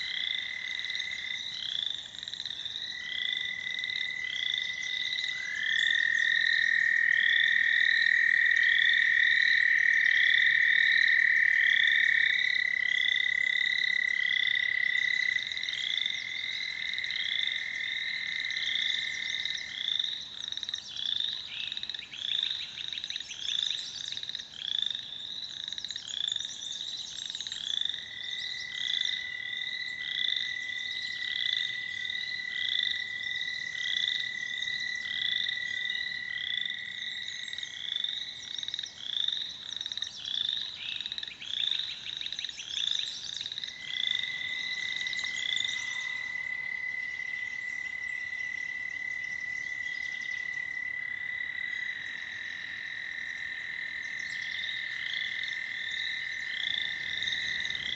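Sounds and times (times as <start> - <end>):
toads trilling: 0.0 - 57.9.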